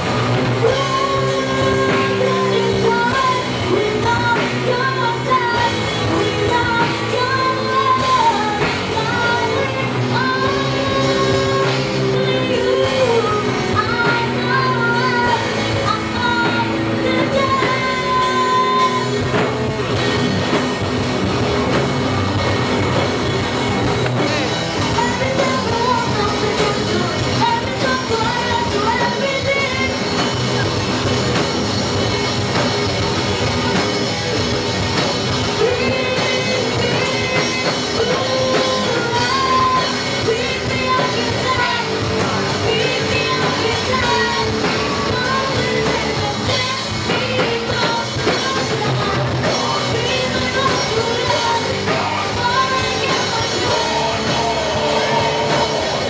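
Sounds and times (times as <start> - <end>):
drum kit: 0.0 - 56.0
electric guitars: 0.0 - 56.0
girl singing into microphone: 0.6 - 19.6, 24.2 - 30.7, 35.4 - 56.0.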